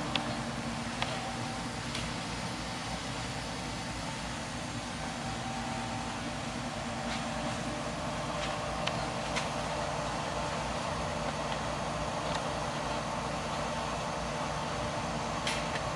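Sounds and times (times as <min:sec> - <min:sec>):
furnace whirring and humming: 0:00.0 - 0:15.9.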